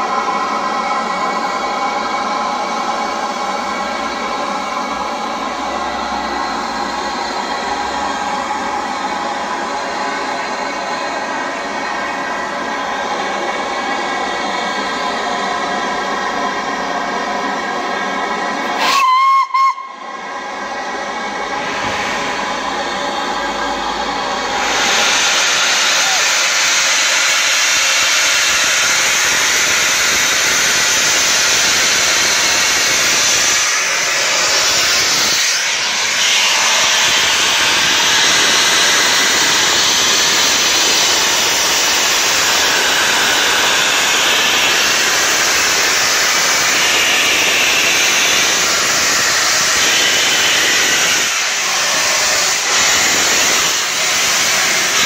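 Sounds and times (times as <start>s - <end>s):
steam locomotive venting steam: 0.0s - 55.0s.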